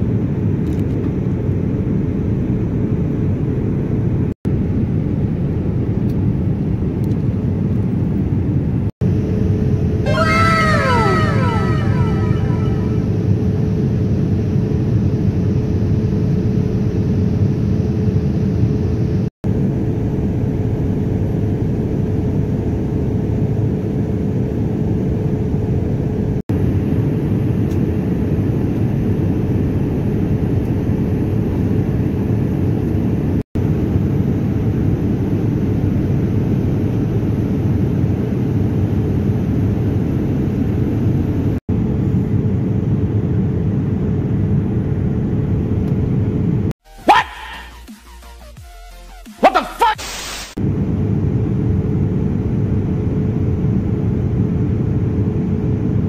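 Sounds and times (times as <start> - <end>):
airliner cabin engine rumble: 0.0 - 46.7, 50.6 - 56.0.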